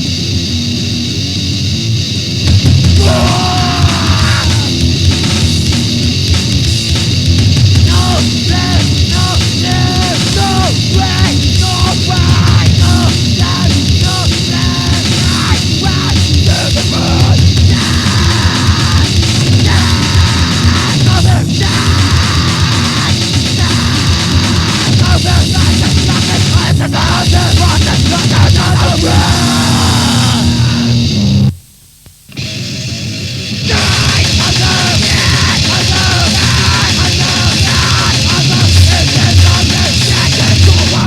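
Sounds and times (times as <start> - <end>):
loud fast distorted punk band: 0.0 - 31.6, 32.3 - 41.0.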